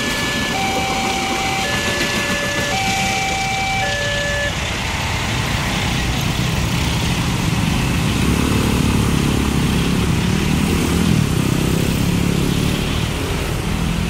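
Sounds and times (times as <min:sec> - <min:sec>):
motorcycles and scooters revving: 0:00.2 - 0:14.0.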